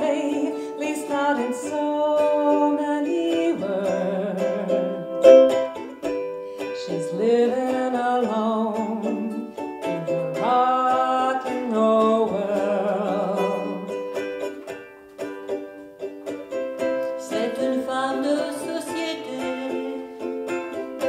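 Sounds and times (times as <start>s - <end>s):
ukuleles strumming chords: 0.0s - 21.0s.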